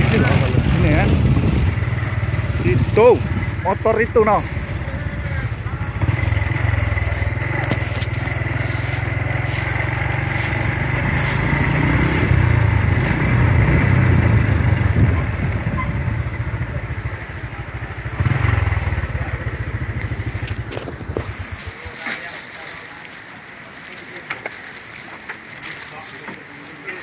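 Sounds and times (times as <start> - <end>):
motorcycle engine rumbling: 0.0 - 27.0.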